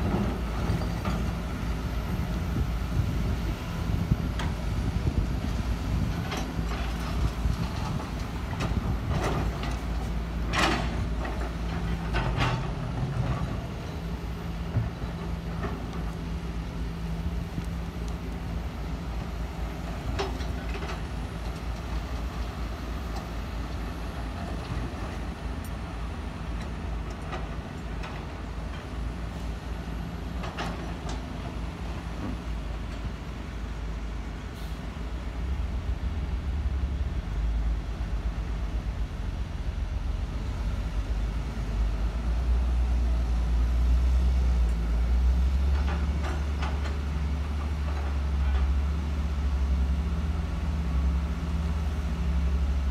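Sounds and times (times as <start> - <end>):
heavy diesel engines rumbling: 0.0 - 52.9.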